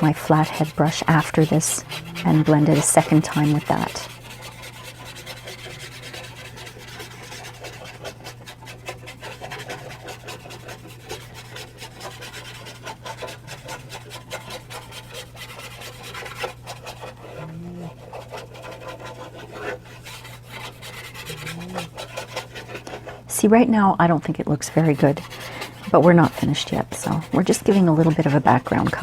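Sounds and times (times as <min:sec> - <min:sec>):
brush rasping on paper: 0:00.0 - 0:23.3, 0:24.2 - 0:29.0.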